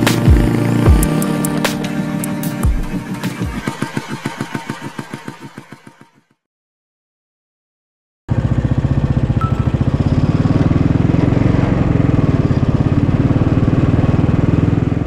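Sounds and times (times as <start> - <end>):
motorcycle engine running: 0.0 - 6.2, 8.3 - 15.0.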